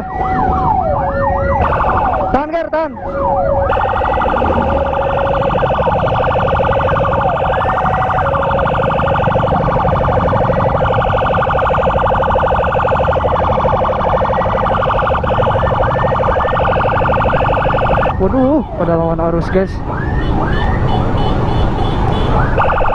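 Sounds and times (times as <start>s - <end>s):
electronic sirens pulsing and whooping: 0.0s - 21.2s, 22.2s - 22.9s
engine and traffic rumble: 0.0s - 22.9s.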